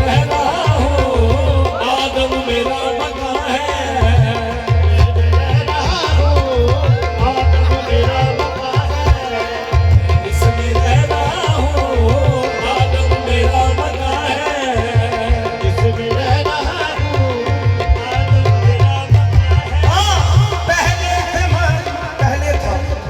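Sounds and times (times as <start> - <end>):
tabla drumming: 0.0 - 23.0.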